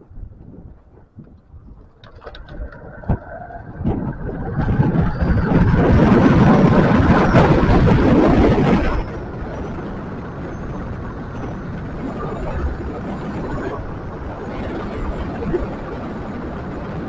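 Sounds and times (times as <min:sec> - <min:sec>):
faint high whine: 0:00.0 - 0:17.0
road and wind noise: 0:00.0 - 0:17.0.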